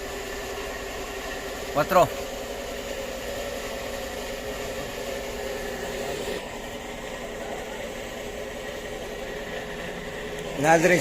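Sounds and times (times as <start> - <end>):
mechanical hum with whine: 0.0 - 11.0.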